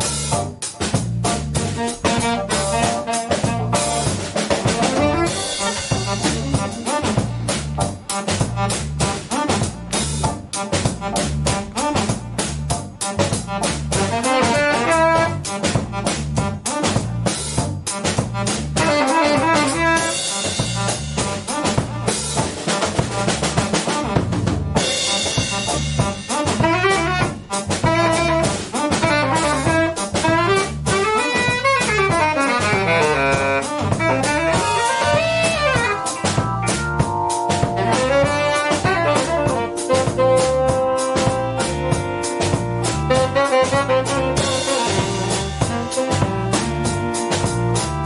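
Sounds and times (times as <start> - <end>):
drum kit with cymbals: 0.0 - 48.0
electric bass: 0.0 - 48.0
keyboards: 0.0 - 48.0
saxophone lead: 1.6 - 48.0.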